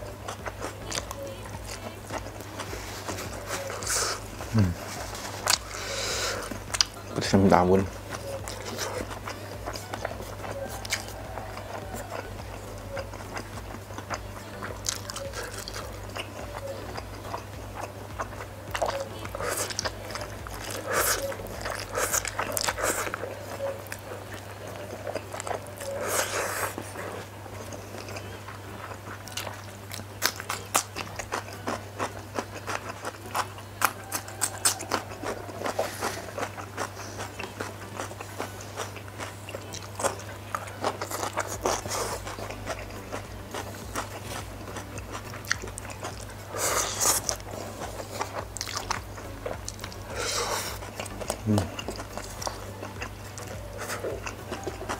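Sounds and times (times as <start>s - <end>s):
chewing and mouth clicks: 0.0s - 54.9s
low hum: 0.0s - 54.9s.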